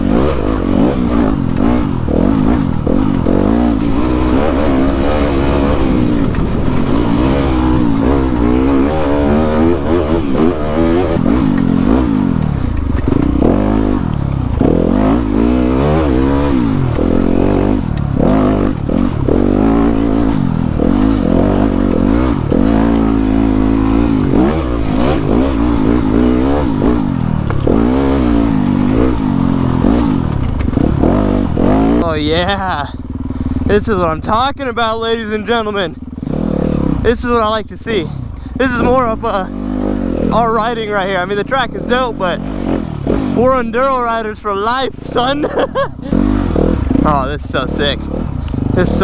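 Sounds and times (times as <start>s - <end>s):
clatter: 0.0s - 49.0s
dirt bike engine revving: 0.0s - 49.0s.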